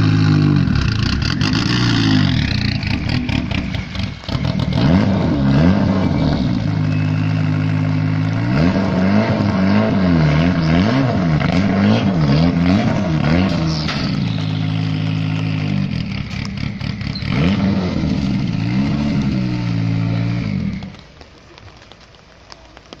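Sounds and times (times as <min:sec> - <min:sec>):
car engine idling: 0:00.0 - 0:21.9
rally car engine throttle blips: 0:00.0 - 0:21.9.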